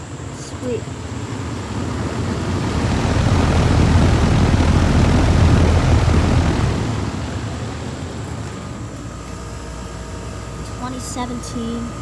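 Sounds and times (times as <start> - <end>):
heat pump fan rumbling: 0.0 - 12.0.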